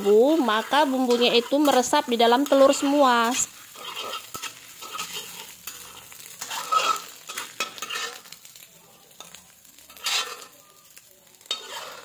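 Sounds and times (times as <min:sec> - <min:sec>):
eggs sizzling: 0:00.0 - 0:12.0
spatula scraping a wok: 0:00.0 - 0:12.0.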